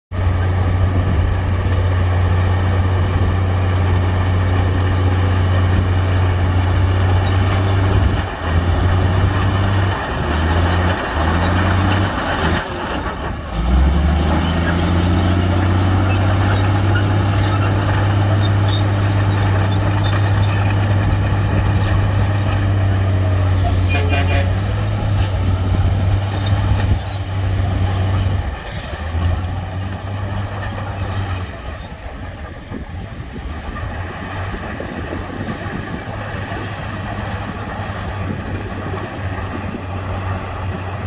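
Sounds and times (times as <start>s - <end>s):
heavy diesel engine droning: 0.1s - 41.0s.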